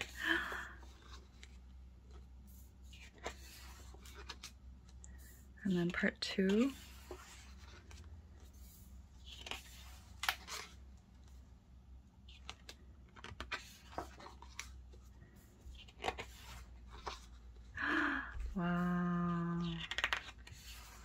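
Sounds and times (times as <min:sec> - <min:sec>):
pages turning: 0:00.0 - 0:11.4, 0:12.2 - 0:17.7, 0:18.8 - 0:21.0.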